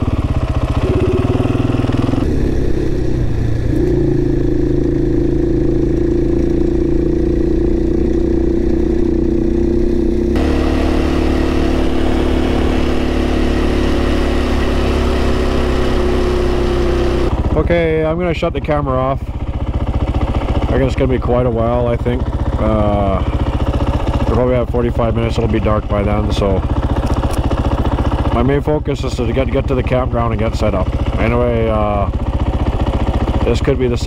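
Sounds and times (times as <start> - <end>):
motorcycle engine running: 0.0 - 34.0
road and wind noise: 0.0 - 34.0.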